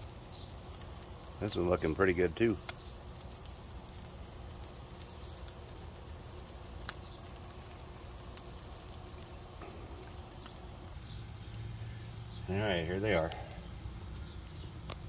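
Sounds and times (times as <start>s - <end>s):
fat crackling and popping: 0.0s - 15.0s
meat sizzling: 0.0s - 15.0s.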